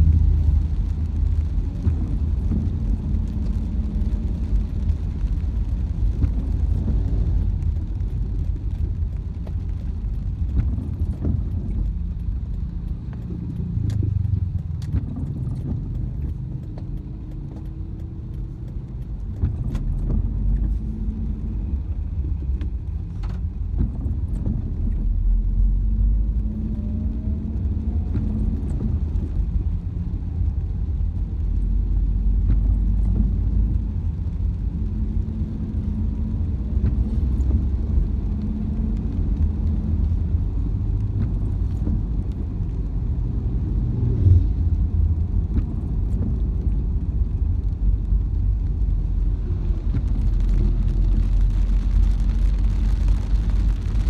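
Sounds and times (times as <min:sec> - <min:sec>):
engine and tyres rumbling: 0:00.0 - 0:54.0.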